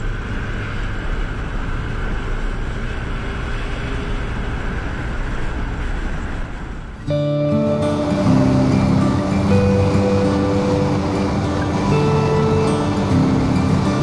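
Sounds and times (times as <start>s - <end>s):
motorcycle engine cruising: 0.0s - 14.0s
road noise: 0.0s - 14.0s
wind rush: 0.2s - 14.0s.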